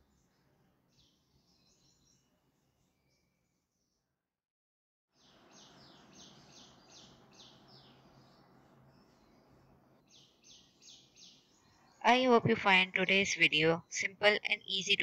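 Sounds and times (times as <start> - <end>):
faint room noise: 0.0 - 3.5, 5.2 - 15.0
small bird chirping: 0.0 - 4.0, 5.2 - 15.0.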